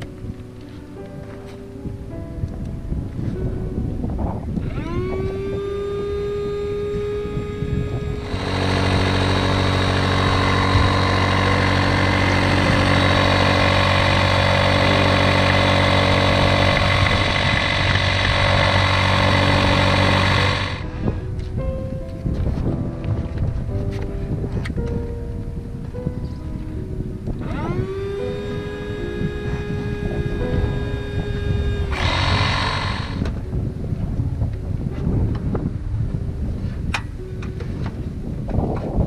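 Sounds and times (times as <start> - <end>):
electric pump whine and hum: 0.0 - 39.0
deep motor drone: 1.8 - 36.5.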